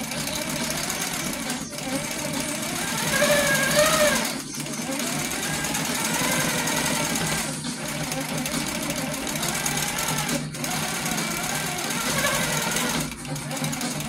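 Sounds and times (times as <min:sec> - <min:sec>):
quilting machine stitching: 0:00.0 - 0:14.0.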